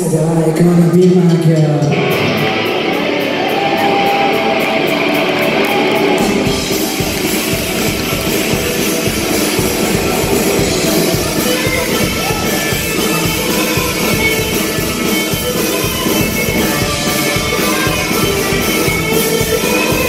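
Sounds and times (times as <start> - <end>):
electric guitars playing: 0.0 - 20.0
drum kit and cymbals: 1.0 - 20.0.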